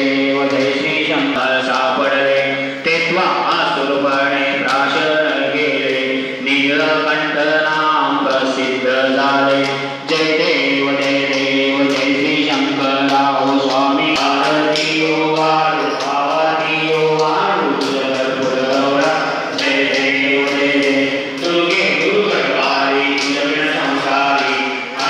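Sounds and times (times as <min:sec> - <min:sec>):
person singing into microphone: 0:00.0 - 0:25.0
sharp rhythmic clicks: 0:00.0 - 0:25.0
voices singing along: 0:00.0 - 0:25.0.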